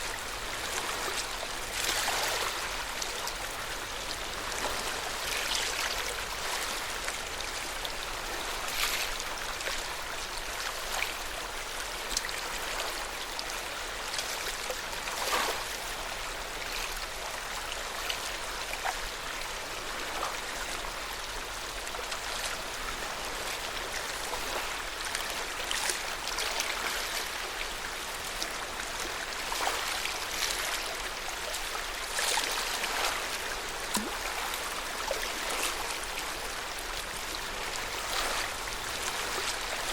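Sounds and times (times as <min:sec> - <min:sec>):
small water splashes: 0:00.0 - 0:19.1, 0:21.4 - 0:39.9
water lapping at shore: 0:00.0 - 0:39.9.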